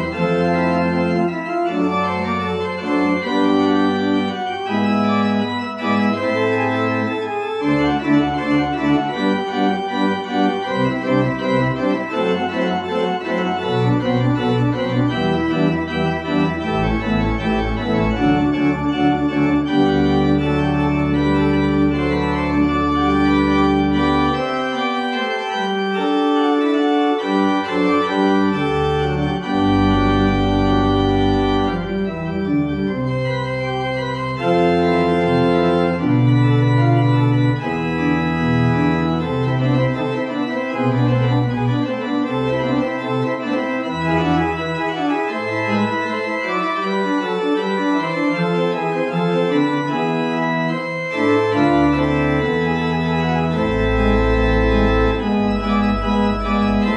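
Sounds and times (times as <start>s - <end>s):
organ music: 0.0s - 56.9s.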